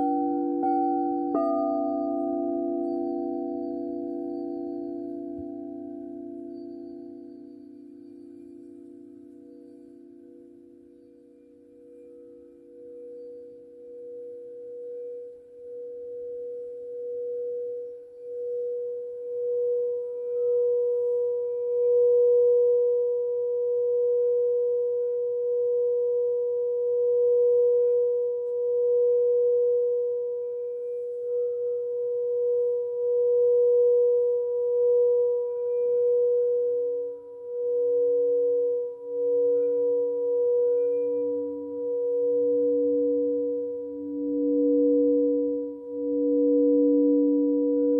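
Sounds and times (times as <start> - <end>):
crystal singing bowl tone: 0.0 - 47.9
larger crystal bowl lower tone: 0.0 - 47.9.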